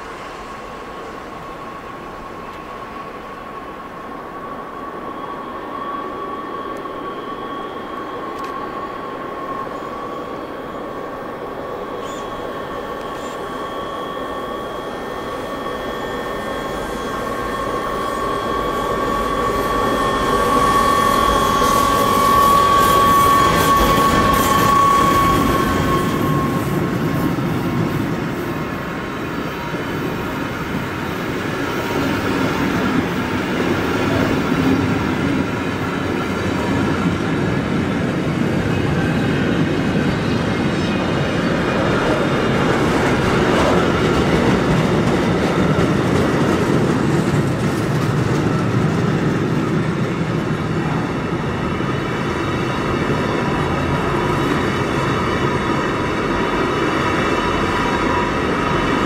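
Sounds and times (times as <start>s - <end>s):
locomotive high whine: 0.0s - 59.0s
train wagons rumbling past: 0.0s - 59.0s.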